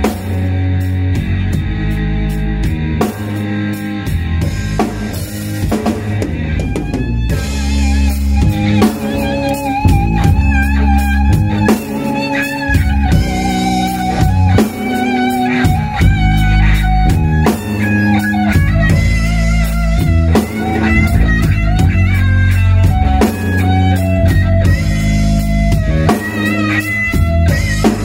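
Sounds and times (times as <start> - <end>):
drum kit: 0.0 - 28.0
electric bass: 0.0 - 28.0
electric guitar melody: 0.0 - 28.0.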